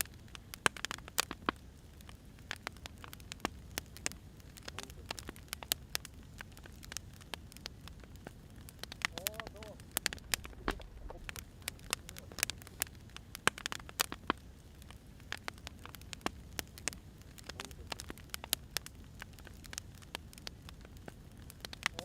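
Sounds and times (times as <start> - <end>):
firewood crackling and popping: 0.0 - 22.0
low rush of flames: 0.0 - 22.0.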